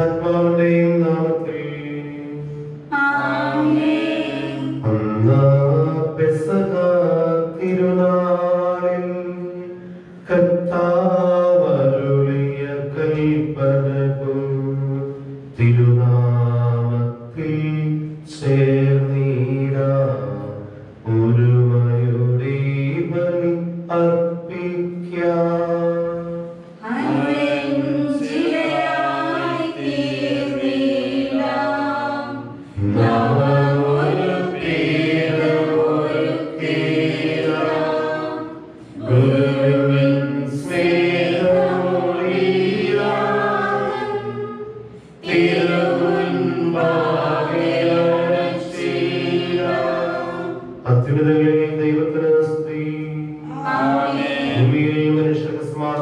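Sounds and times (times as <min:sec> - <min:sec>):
choir singing a hymn: 0:00.0 - 0:17.3, 0:25.6 - 0:52.5, 0:53.4 - 0:56.0.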